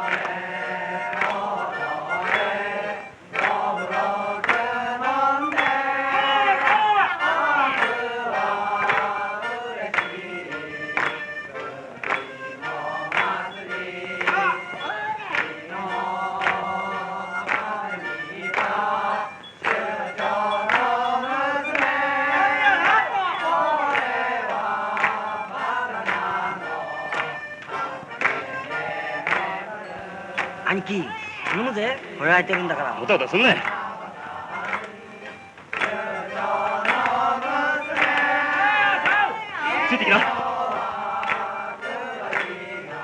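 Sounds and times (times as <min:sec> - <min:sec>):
men singing folk song: 0:00.0 - 0:43.0
sharp claps keeping time: 0:00.0 - 0:43.0.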